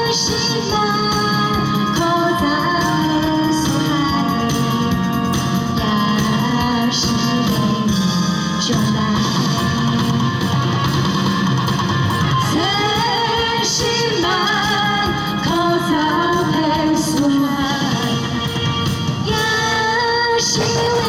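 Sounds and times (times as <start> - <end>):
pop song with band: 0.0 - 21.0.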